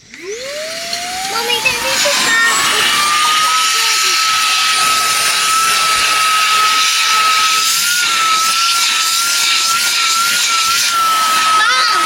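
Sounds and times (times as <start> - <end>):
vacuum cleaner high-pitched whine: 0.0 - 12.0.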